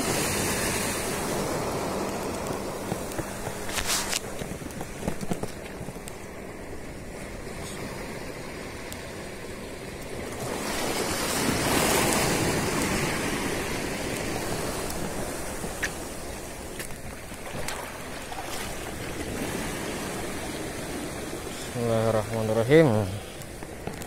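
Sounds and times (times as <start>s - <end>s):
sea waves washing on shore: 0.0s - 24.0s.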